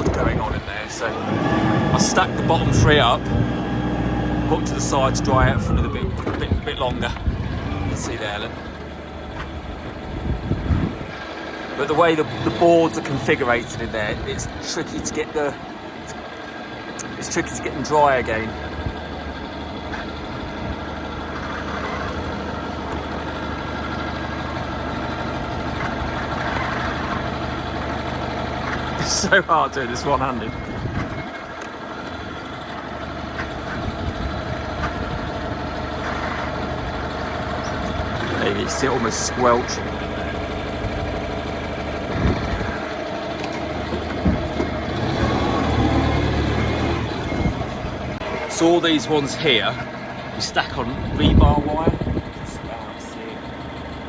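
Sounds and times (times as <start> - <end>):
farm machine engine running: 0.0 - 54.0.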